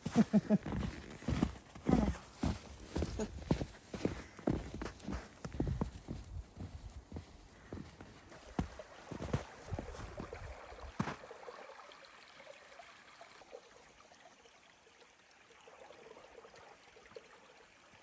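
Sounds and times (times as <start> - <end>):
faint water trickling: 0.0 - 18.0.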